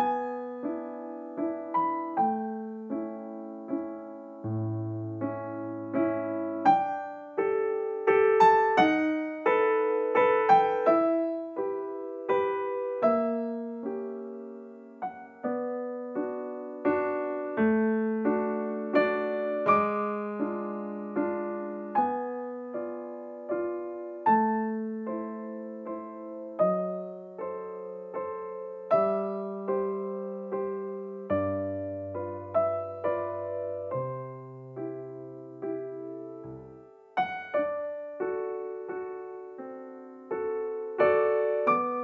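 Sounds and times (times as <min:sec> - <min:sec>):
slow gentle piano music: 0:00.0 - 0:42.0.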